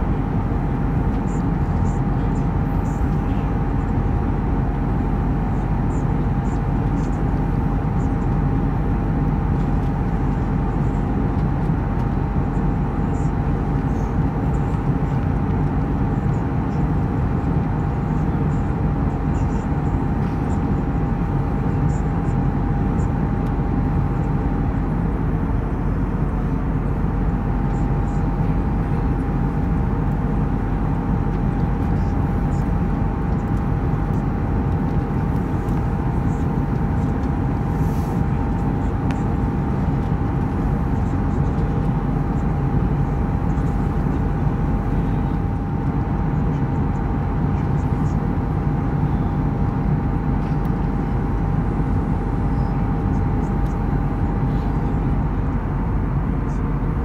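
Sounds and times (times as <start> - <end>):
aircraft cabin engine noise: 0.0 - 57.0.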